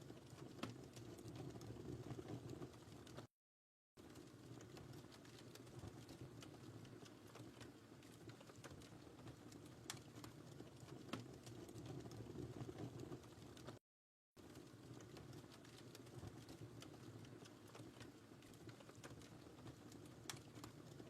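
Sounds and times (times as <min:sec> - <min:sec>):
wood fire crackling: 0:00.0 - 0:03.3, 0:04.0 - 0:13.8, 0:14.4 - 0:21.0.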